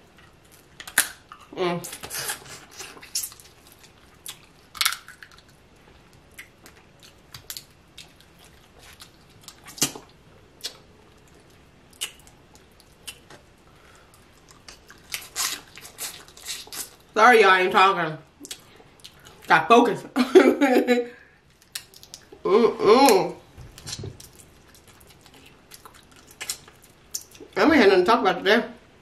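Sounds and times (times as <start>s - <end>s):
person chewing and lip smacking: 0.2s - 17.1s, 18.4s - 19.5s, 21.5s - 22.4s, 23.0s - 27.6s.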